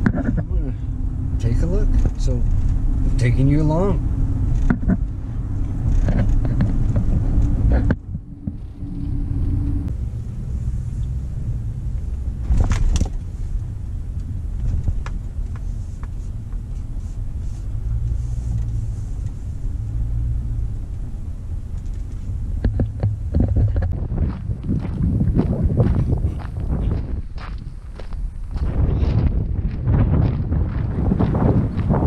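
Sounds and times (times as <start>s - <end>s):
vehicle engine and tyres rumbling: 0.0s - 32.0s.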